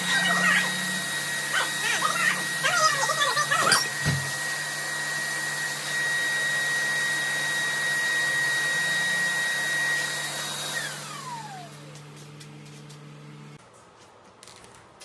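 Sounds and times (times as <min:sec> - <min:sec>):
vacuum cleaner motor whining: 0:00.0 - 0:13.6.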